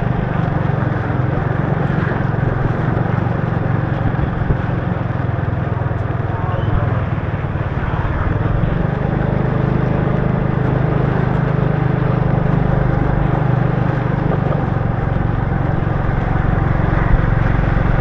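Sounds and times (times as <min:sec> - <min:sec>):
motorbike engine running steadily: 0:00.0 - 0:18.0
tyres on wet road: 0:00.0 - 0:18.0.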